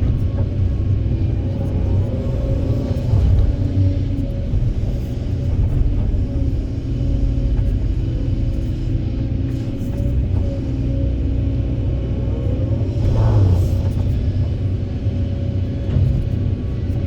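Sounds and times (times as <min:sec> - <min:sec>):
diesel engine rumble: 0:00.0 - 0:17.0
steady machine drone: 0:00.0 - 0:17.0.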